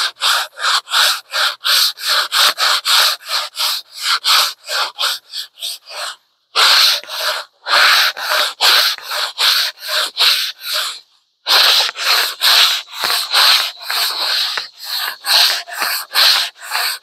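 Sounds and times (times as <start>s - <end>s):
sanding block rubbing wood: 0.0s - 17.0s.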